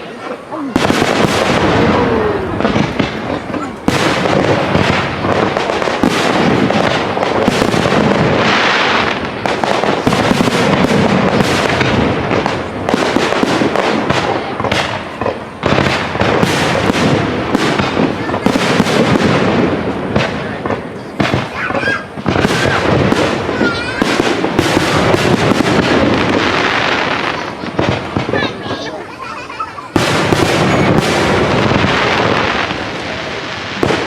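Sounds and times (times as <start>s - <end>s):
fireworks crackling: 0.0s - 34.0s
fireworks shells bursting: 0.0s - 34.0s.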